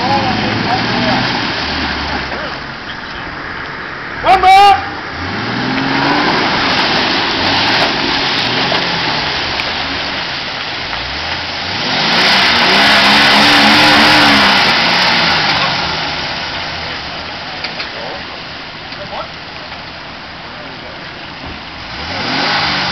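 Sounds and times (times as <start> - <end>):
engine revving: 0.0 - 17.8, 21.8 - 22.9
steady rushing noise: 0.0 - 19.3.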